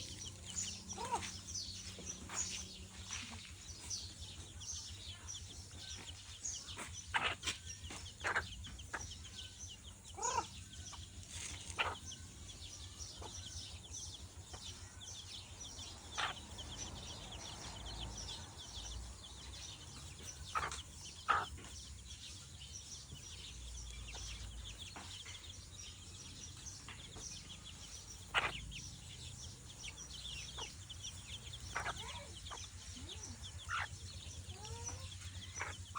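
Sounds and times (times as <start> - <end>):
chickens clucking: 0.0 - 35.9.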